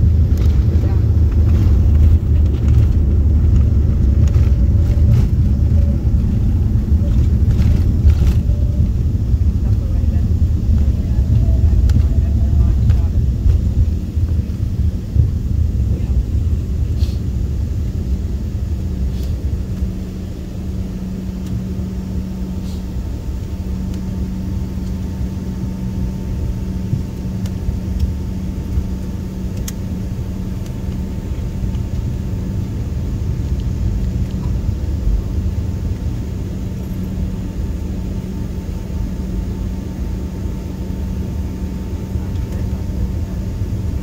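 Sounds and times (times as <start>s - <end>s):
jet engines humming: 0.0s - 44.0s
low cabin rumble: 0.0s - 44.0s.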